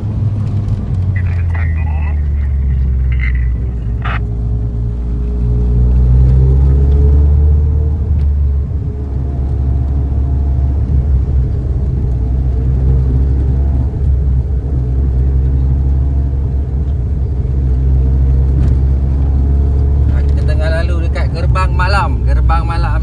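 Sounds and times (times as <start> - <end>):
car engine rumbling from cabin: 0.0 - 23.0.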